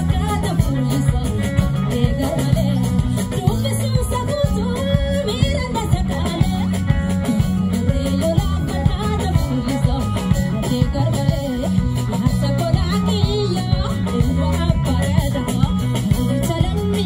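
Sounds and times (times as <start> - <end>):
live band drums and guitars: 0.0 - 17.0
woman singing: 0.0 - 17.0.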